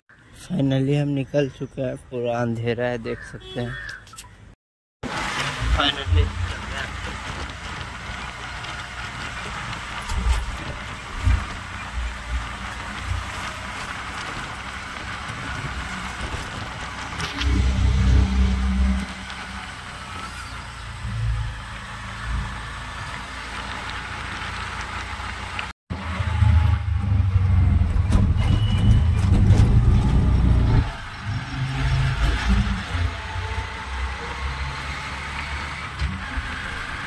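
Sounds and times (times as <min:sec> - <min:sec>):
auto-rickshaw engine: 0:05.0 - 0:37.0.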